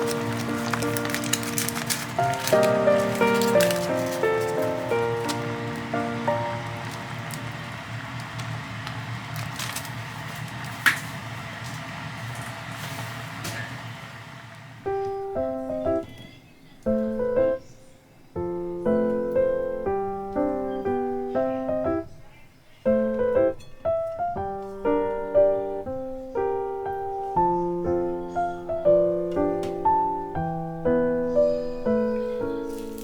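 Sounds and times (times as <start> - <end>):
light piano music: 0.0 - 11.0, 14.6 - 33.0.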